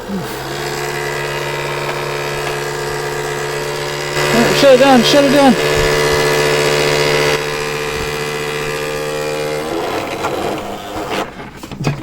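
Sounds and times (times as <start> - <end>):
fan blades rattling against paper: 0.4 - 12.0.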